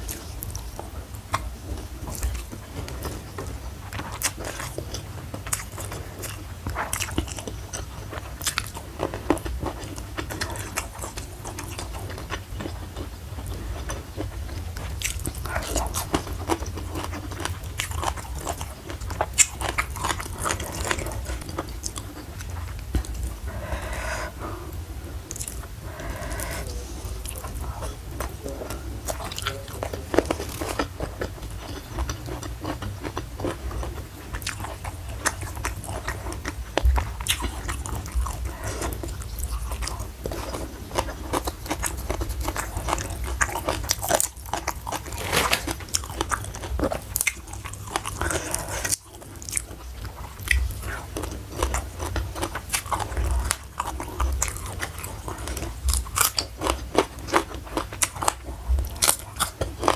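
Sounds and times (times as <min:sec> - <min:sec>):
steady low hum: 0:00.0 - 0:56.3
crunchy chewing of food: 0:00.0 - 0:59.9.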